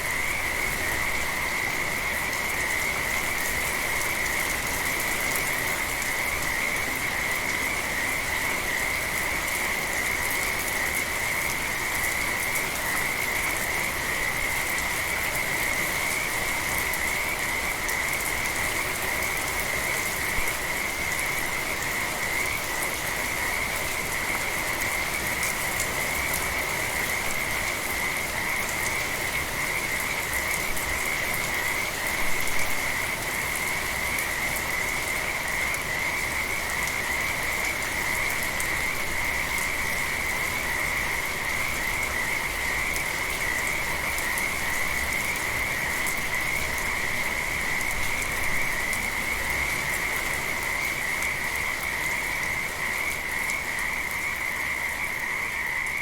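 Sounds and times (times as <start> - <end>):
frogs trilling chorus: 0.0 - 56.0
gentle rain patter: 0.0 - 56.0.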